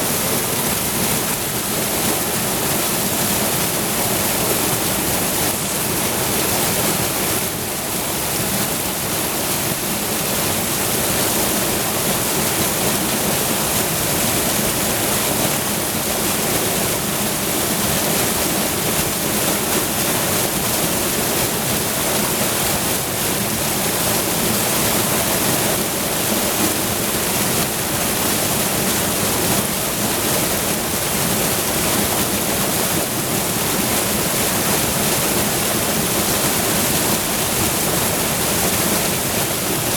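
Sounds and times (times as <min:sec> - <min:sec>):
waterfall rushing roar: 0:00.0 - 0:39.9.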